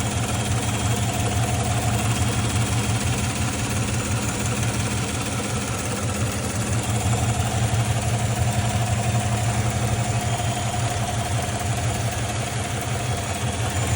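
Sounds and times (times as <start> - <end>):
engine idling: 0.0 - 13.9
engine ticking: 0.0 - 13.9.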